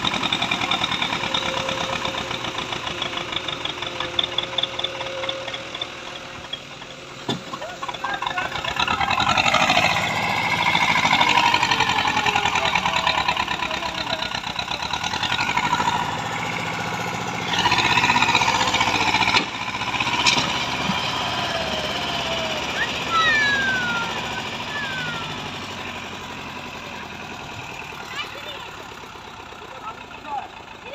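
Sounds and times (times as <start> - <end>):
digger diesel engine revving: 0.0 - 30.9.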